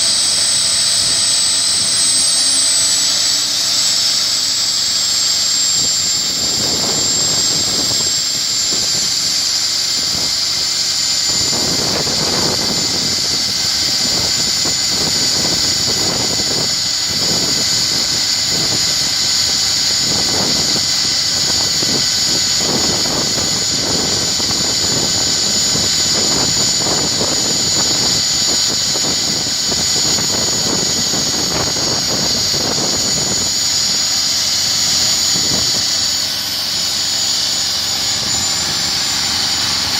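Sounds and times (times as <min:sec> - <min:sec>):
core drill motor whine: 0:00.0 - 0:39.9
rough grinding noise: 0:00.0 - 0:39.9.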